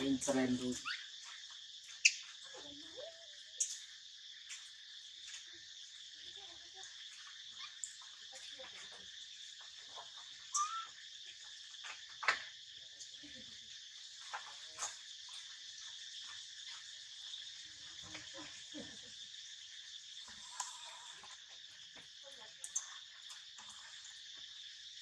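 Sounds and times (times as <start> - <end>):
insect chorus drone: 0.0 - 25.0.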